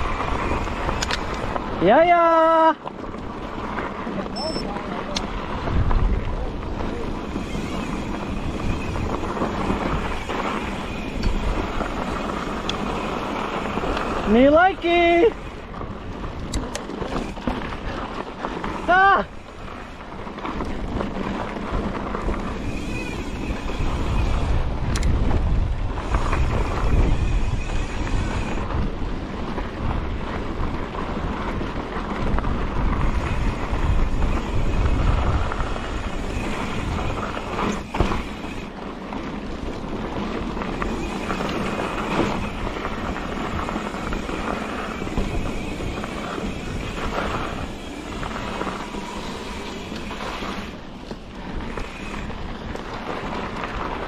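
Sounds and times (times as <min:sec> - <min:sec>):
mountain bike rattling on rocks: 0:00.0 - 0:54.0
wind rushing over microphone: 0:00.0 - 0:54.0.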